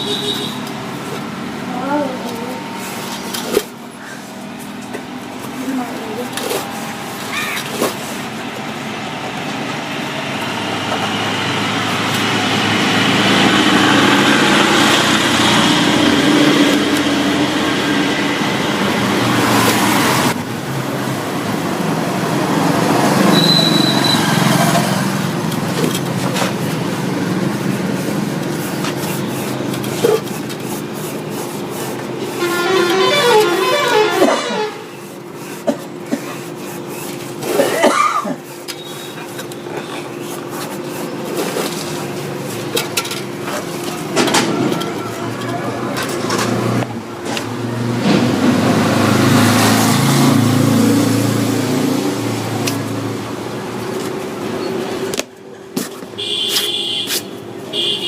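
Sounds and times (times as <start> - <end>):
traffic going by: 0.0 - 58.0.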